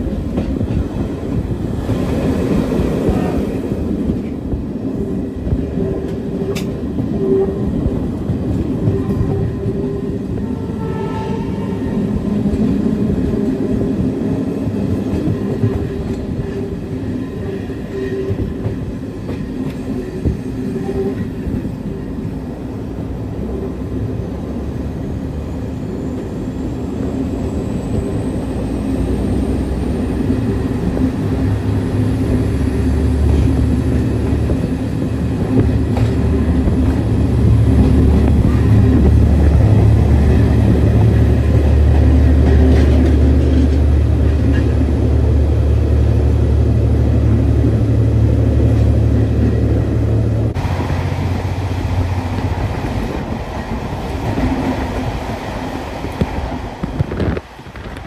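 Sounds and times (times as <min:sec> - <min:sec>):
deep tunnel rumble: 0:00.0 - 0:58.0
train wheel and rail noise: 0:00.0 - 0:58.0.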